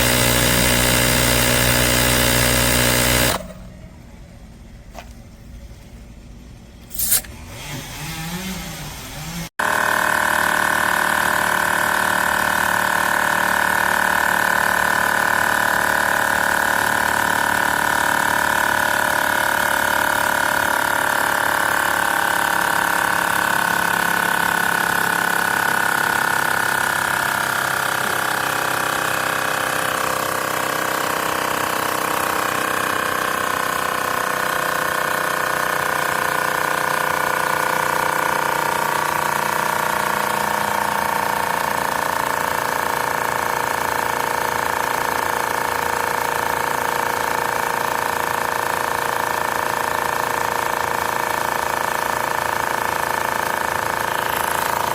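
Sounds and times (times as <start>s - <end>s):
air compressor buzzing whine: 0.0s - 3.8s, 6.8s - 54.9s.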